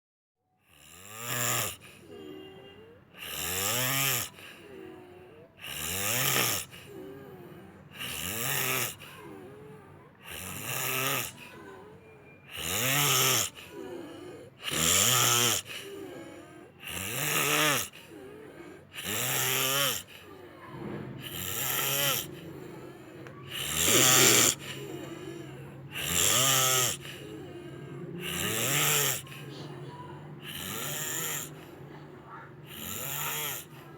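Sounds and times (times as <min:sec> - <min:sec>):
quiet breathing: 0:00.5 - 0:33.9
person snoring: 0:00.6 - 0:33.9.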